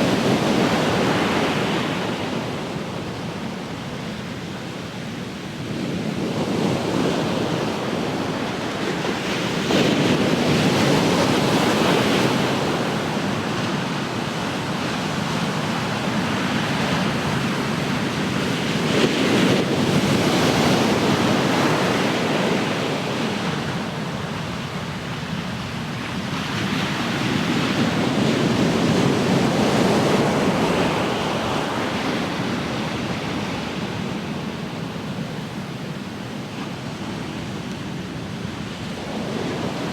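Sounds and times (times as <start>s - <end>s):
ocean waves breaking: 6.7s - 39.9s.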